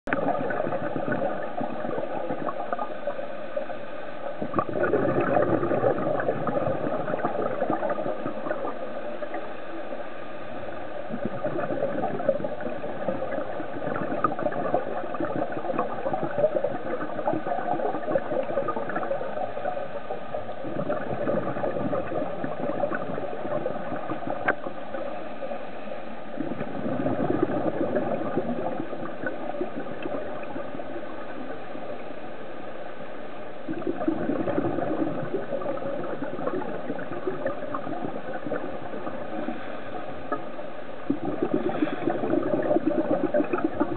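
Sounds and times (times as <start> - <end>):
underwater gurgling bubbling water: 0.1 - 43.9.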